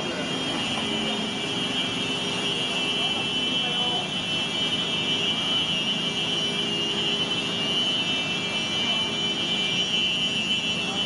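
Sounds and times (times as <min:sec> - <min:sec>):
high-pitched alarm tone: 0:00.0 - 0:11.0.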